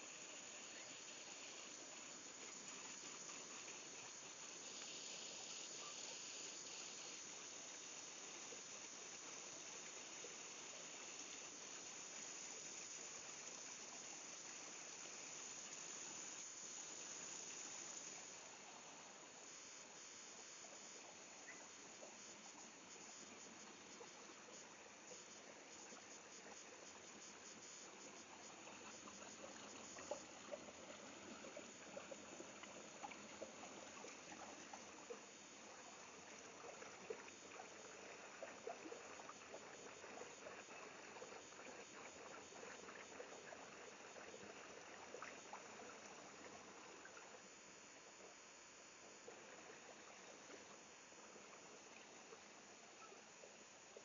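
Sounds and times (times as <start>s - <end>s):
stream running over rocks: 0.0s - 54.0s.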